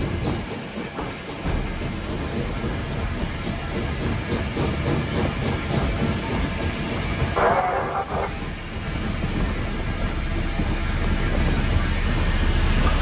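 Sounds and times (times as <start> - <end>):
steam hissing: 0.0 - 13.0
steam locomotive running: 0.0 - 13.0
wheel clatter: 0.0 - 13.0.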